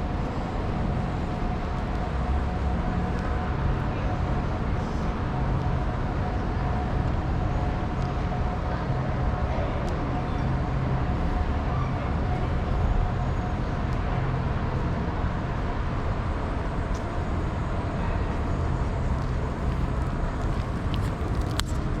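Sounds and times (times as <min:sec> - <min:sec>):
low rumble of city traffic: 0:00.0 - 0:22.0.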